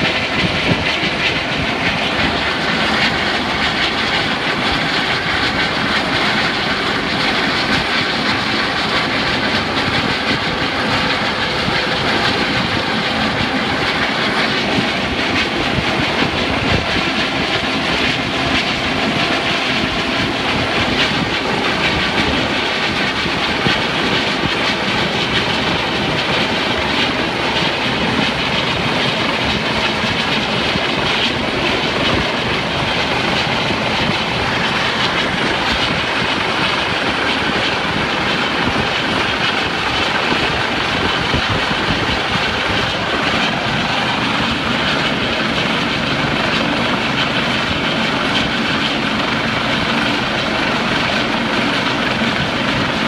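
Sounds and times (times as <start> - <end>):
helicopter rotors chopping: 0.0 - 53.0.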